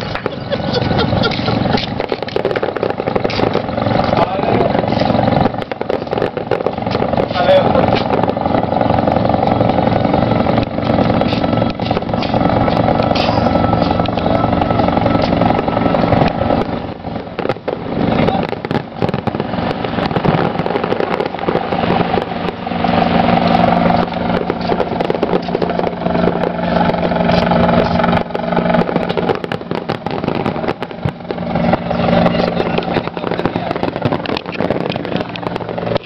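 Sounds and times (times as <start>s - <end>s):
fireworks popping and crackling: 0.0s - 36.0s
steady drone: 0.0s - 36.0s.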